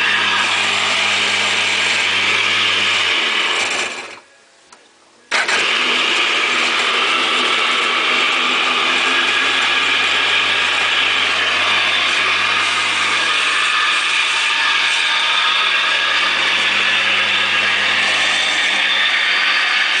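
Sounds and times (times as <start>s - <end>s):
small engine running: 0.0s - 4.2s, 5.3s - 20.0s.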